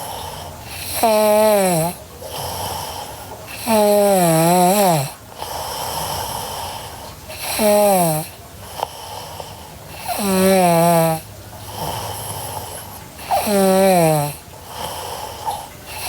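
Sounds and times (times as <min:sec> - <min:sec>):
breathy breathing: 0:00.0 - 0:16.0
girl snoring: 0:00.0 - 0:16.0.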